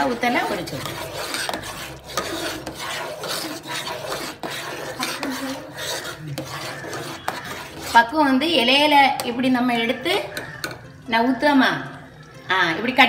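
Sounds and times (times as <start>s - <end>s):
ladle scraping a metal pot: 0.0s - 12.0s.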